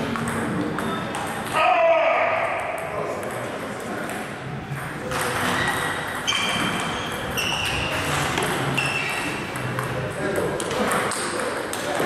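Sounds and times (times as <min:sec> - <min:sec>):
table tennis ball rally: 0:00.0 - 0:12.0.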